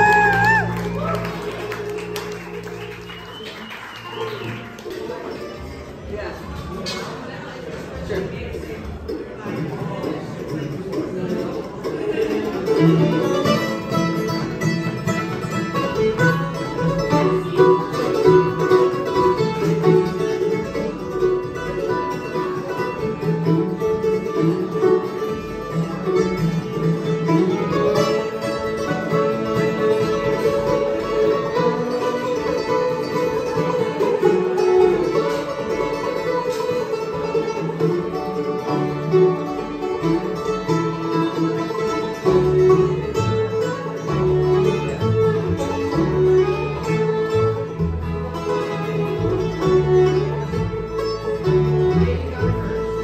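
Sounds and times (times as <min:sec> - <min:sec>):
acoustic guitar: 0:00.0 - 0:53.0
string band playing: 0:00.0 - 0:53.0.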